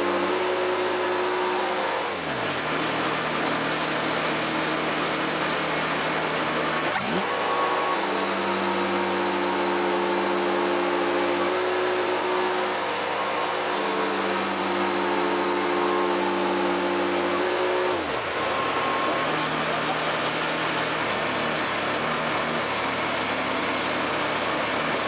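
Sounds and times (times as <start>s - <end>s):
bandsaw mill cutting log: 0.0s - 25.0s.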